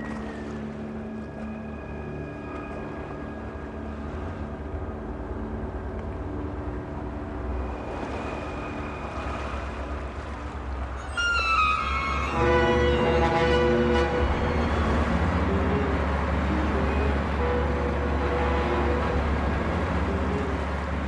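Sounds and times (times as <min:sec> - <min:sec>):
motor boat engine rumble: 0:00.0 - 0:21.0
music with strings: 0:00.0 - 0:21.0.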